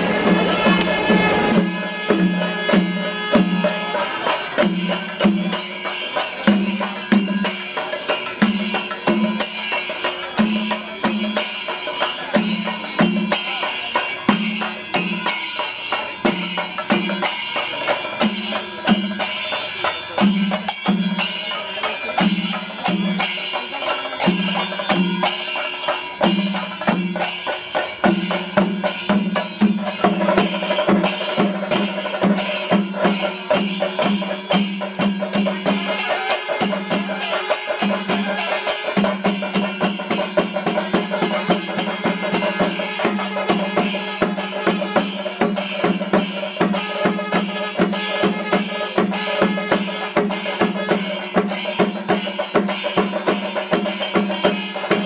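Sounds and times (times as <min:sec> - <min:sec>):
drum strokes: 0:00.0 - 0:11.5, 0:16.2 - 0:55.0
hand cymbals clattering: 0:00.0 - 0:55.0.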